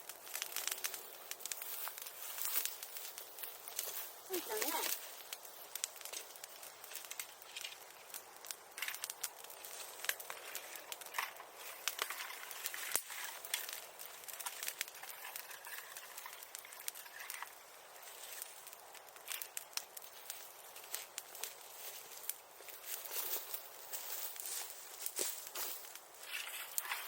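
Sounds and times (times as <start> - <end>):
bonfire crackling: 0.0 - 27.0.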